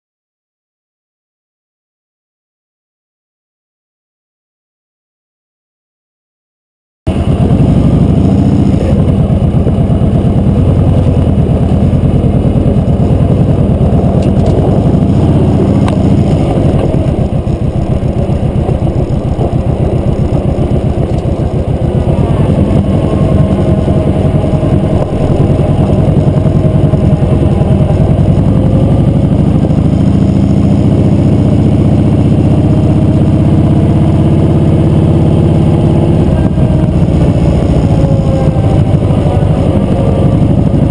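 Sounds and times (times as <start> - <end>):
motorcycle engine running: 7.1 - 40.9.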